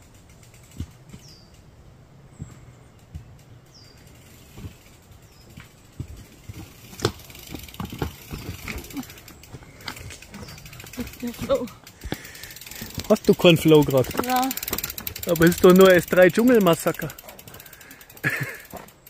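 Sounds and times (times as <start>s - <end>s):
bike rattling over rocks: 0.0s - 19.0s.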